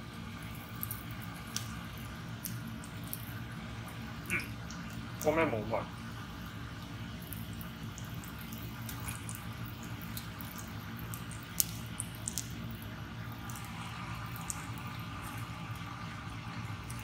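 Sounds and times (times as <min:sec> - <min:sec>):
offal sizzling in oil: 0:00.0 - 0:17.0.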